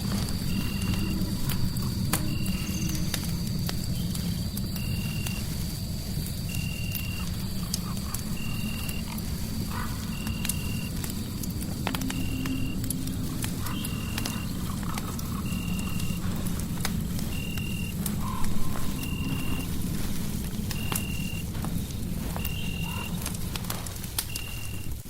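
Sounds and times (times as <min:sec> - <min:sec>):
fireplace crackling: 0:00.0 - 0:25.0.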